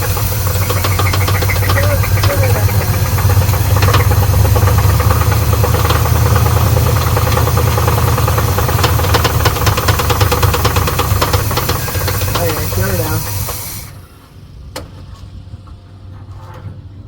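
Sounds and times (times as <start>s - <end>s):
car engine idling: 0.0s - 14.0s
engine knocks and ticks: 0.0s - 14.0s.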